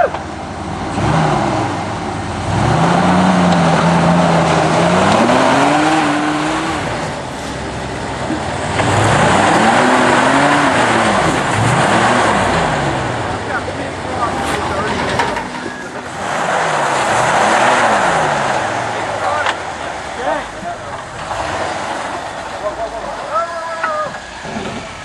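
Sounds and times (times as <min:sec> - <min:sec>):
off-road vehicle engine revving: 0:00.0 - 0:25.0.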